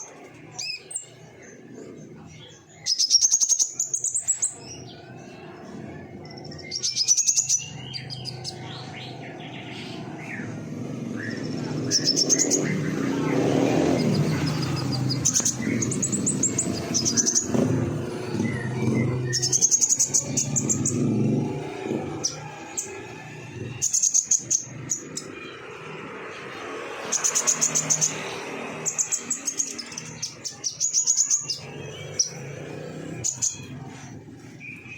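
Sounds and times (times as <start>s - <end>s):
bird trilling: 0.0s - 34.9s.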